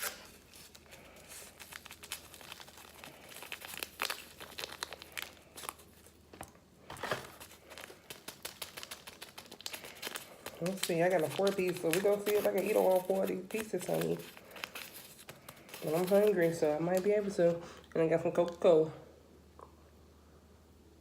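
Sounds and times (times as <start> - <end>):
paper packaging crinkling and tearing: 0.0 - 17.6.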